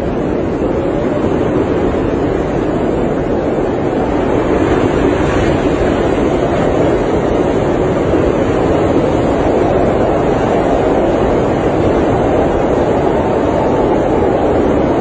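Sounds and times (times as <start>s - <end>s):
blizzard wind against vehicle: 0.0s - 15.0s.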